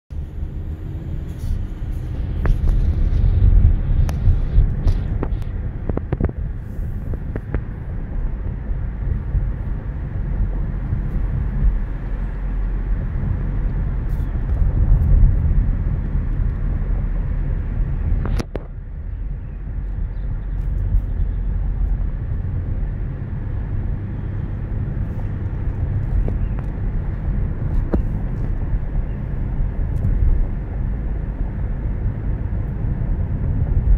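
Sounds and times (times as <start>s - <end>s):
car interior road rumble: 0.1s - 33.9s.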